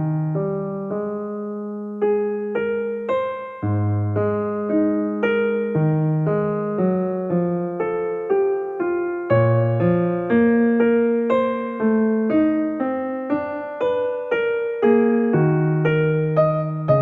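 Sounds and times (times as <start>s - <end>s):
slow piano notes: 0.0s - 17.0s.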